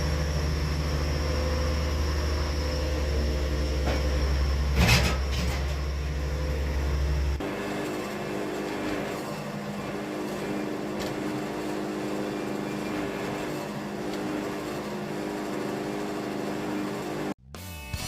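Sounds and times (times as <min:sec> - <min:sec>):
sawmill engine running: 0:00.0 - 0:17.4.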